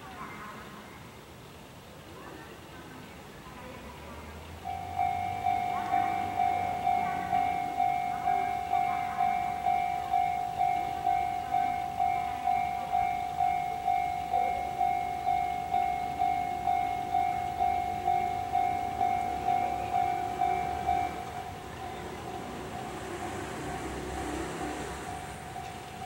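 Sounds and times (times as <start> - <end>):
level crossing bell clanging: 4.6 - 26.0.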